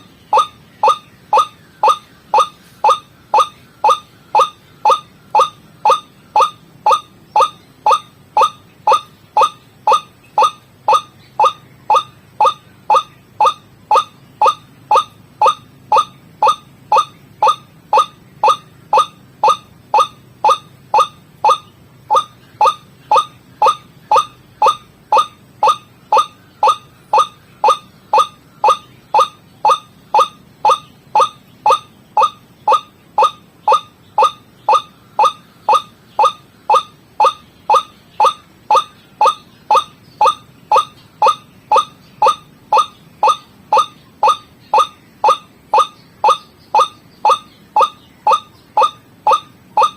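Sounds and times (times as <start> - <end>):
waterhen call: 0.0 - 49.9.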